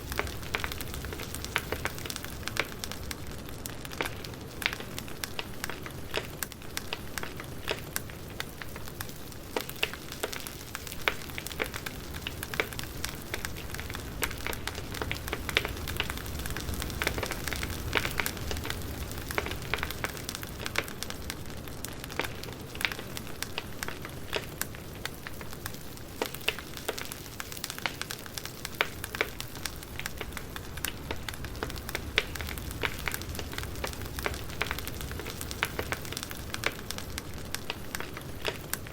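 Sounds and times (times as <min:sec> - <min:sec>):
flames rushing: 0:00.0 - 0:38.9
wood crackling and popping: 0:00.0 - 0:38.9.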